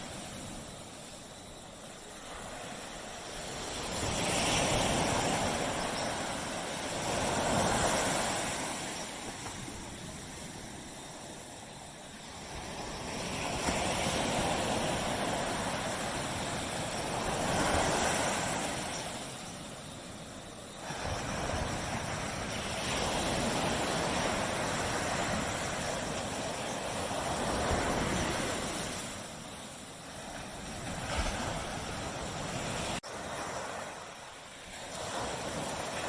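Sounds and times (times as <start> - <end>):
ocean waves breaking on beach: 0.0 - 36.0.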